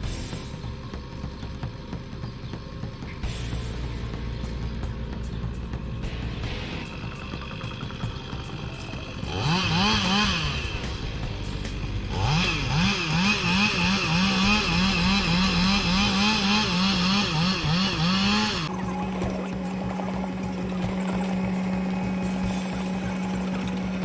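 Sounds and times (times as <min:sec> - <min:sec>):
chainsaw engine revving and idling: 0:00.0 - 0:24.0.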